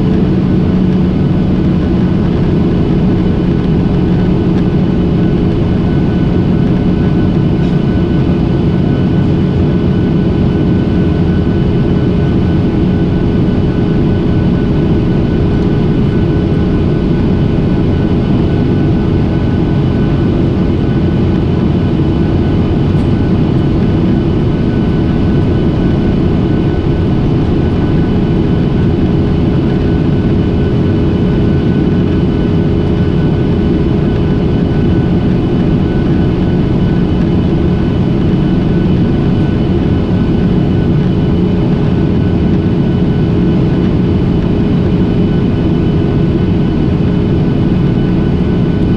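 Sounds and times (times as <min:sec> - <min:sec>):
airliner cabin engine rumble: 0:00.0 - 0:48.9
steady whining tones: 0:00.0 - 0:48.9.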